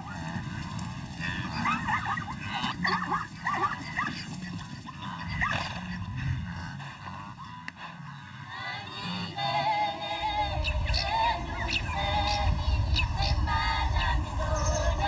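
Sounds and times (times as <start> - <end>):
zebras barking: 0.0 - 15.0.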